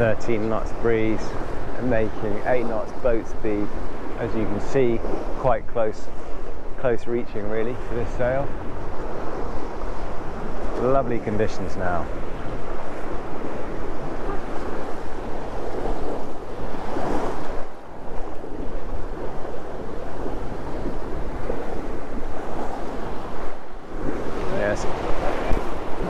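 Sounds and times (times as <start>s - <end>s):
water rushing along boat hull: 0.0s - 26.0s
wind buffeting microphone: 0.0s - 26.0s.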